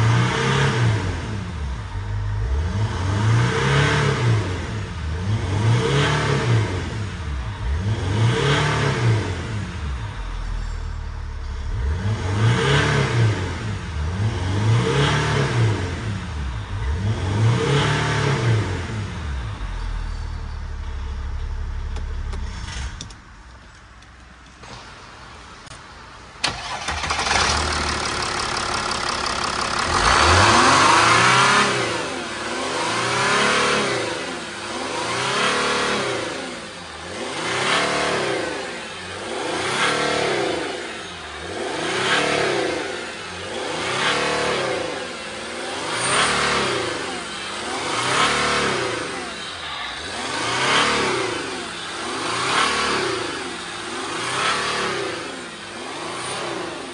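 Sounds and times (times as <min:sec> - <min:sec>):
diesel engine revving: 0:00.0 - 0:23.3, 0:26.4 - 0:56.9.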